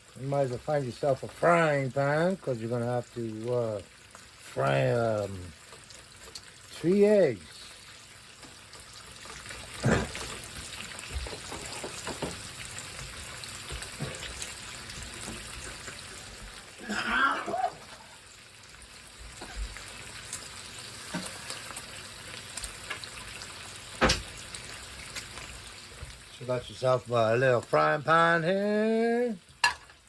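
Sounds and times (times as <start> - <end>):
bacon sizzling in a frying pan: 0.0 - 30.0.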